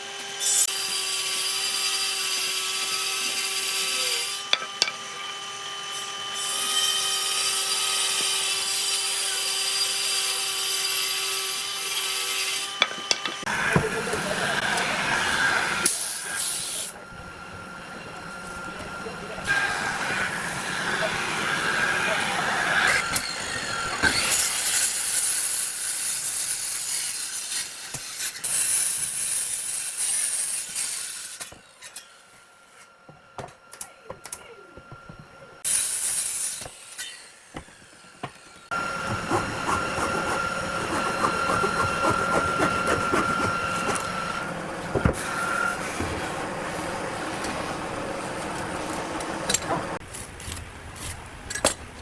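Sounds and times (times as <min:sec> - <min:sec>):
power tool on wood: 0:00.0 - 0:32.4, 0:35.6 - 0:50.0.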